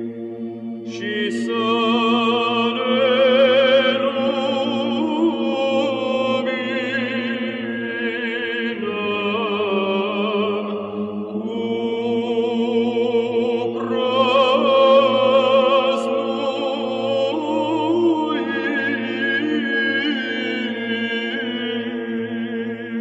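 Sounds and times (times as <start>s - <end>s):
slow chant-like singing: 0.0s - 23.0s.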